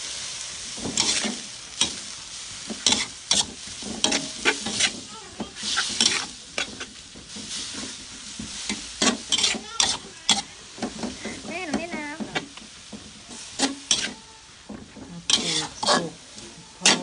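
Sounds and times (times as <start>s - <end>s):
frying sizzle: 0.0s - 17.0s
metal spatula scraping wok: 0.2s - 17.0s.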